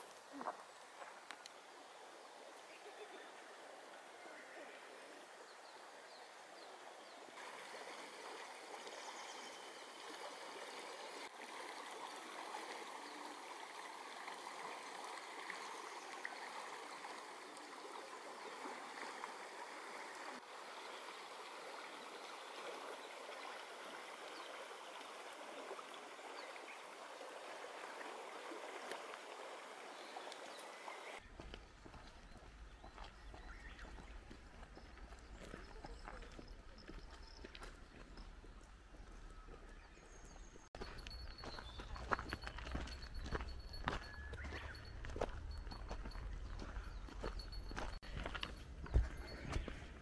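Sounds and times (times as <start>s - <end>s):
river babbling over gravel: 0.0s - 39.2s, 40.8s - 50.0s.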